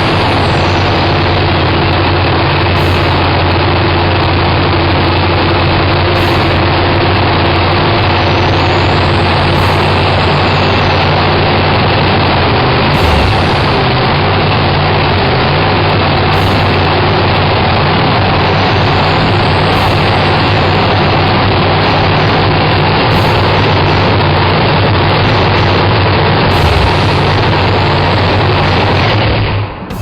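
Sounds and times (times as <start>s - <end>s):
racing car engine idling: 0.0s - 30.0s.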